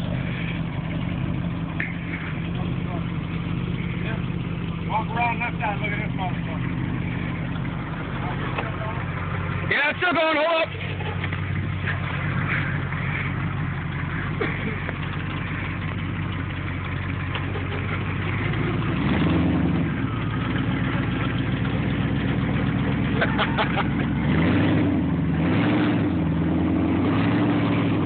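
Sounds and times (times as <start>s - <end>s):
truck engine idling and revving: 0.0s - 28.0s.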